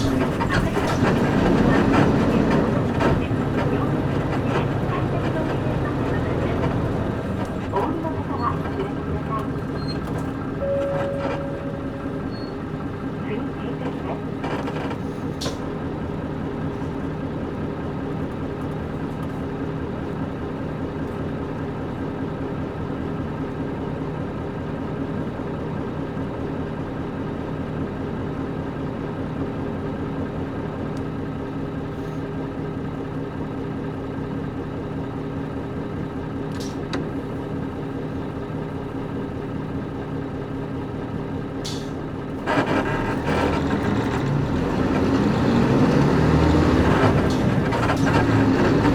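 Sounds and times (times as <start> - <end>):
bus diesel engine from inside: 0.0 - 48.9.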